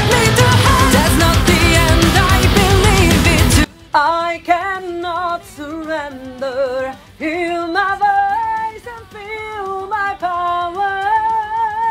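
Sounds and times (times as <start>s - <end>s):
woman singing: 0.0s - 11.9s.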